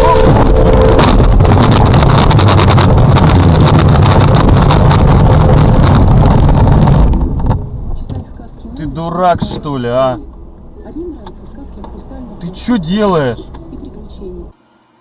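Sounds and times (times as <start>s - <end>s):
car road and wind noise: 0.0s - 14.6s.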